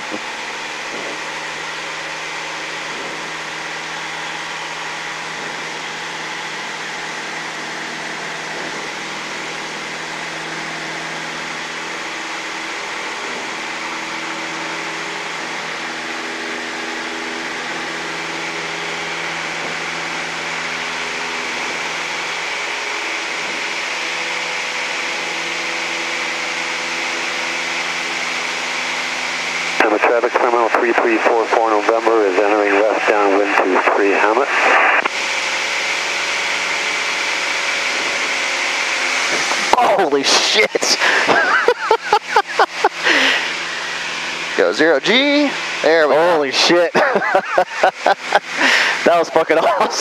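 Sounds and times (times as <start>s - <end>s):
light airplane engine drone: 0.0s - 50.0s.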